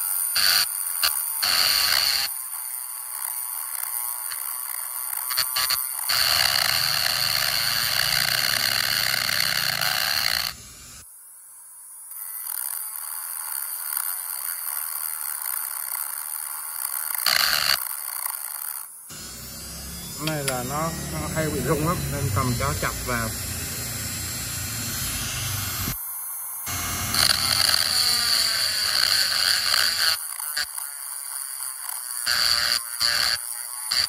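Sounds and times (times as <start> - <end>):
electric rotary grinder whining: 0.0 - 11.0, 12.1 - 34.0.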